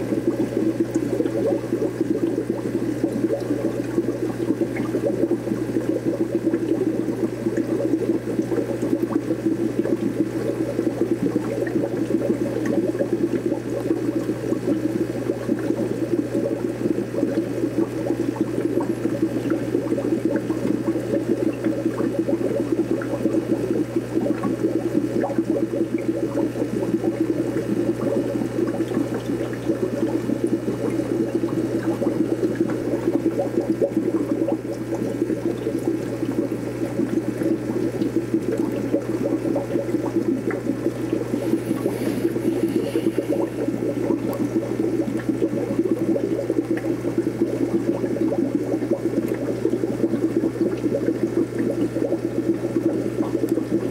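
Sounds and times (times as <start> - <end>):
aquarium water bubbling: 0.0 - 53.9.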